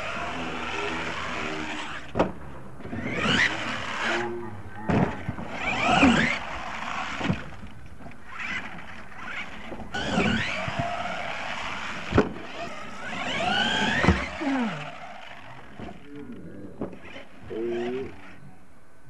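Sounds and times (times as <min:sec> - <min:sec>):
toy truck motor whining: 0:00.0 - 0:02.2, 0:02.8 - 0:18.4.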